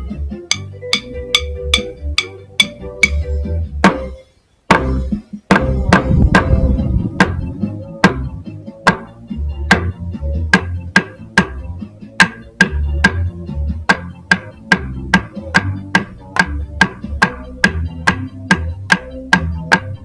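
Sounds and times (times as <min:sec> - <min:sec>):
bass line: 0:00.0 - 0:20.0.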